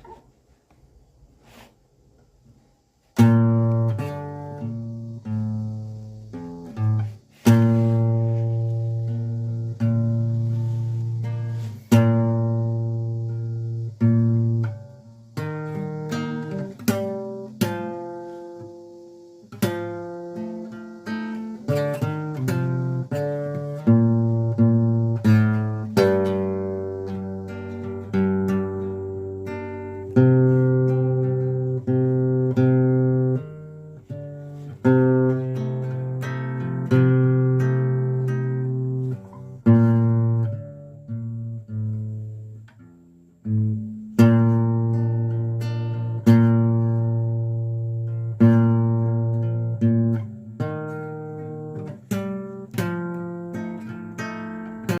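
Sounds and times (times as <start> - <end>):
acoustic guitar melody: 0.0 - 55.0.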